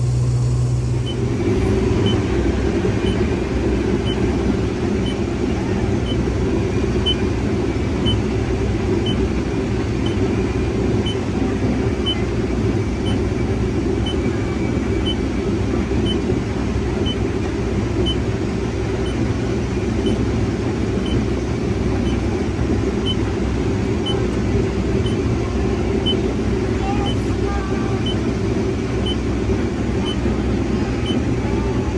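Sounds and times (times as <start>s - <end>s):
harvest machinery engine rumble: 0.0s - 31.9s.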